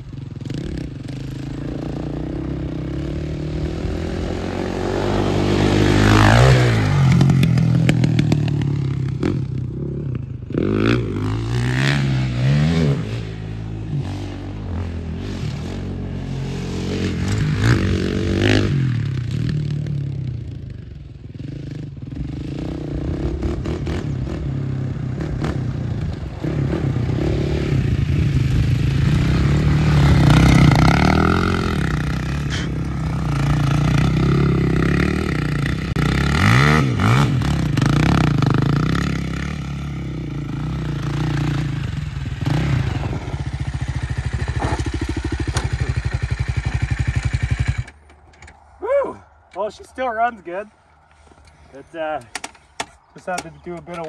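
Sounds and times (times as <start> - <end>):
atv engine revving: 0.0 - 49.7.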